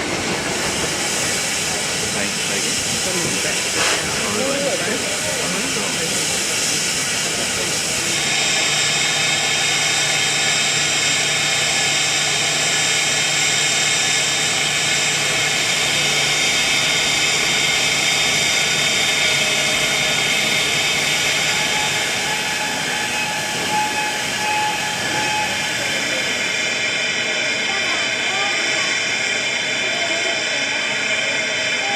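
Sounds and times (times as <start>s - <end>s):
steam hissing from locomotive: 0.0s - 31.9s.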